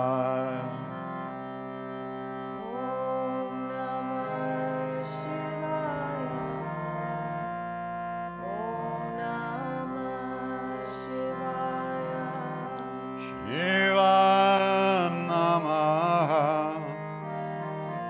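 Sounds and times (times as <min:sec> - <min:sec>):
person singing: 0:00.0 - 0:01.3, 0:02.6 - 0:07.6, 0:08.4 - 0:18.0
harmonium drone chords: 0:00.0 - 0:18.0.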